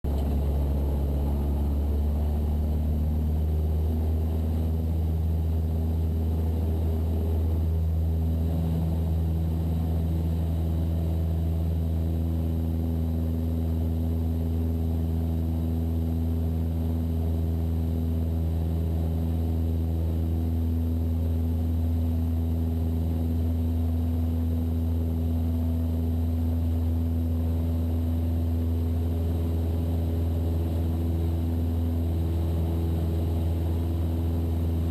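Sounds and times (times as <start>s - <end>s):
propeller plane engine drone: 0.0s - 34.9s.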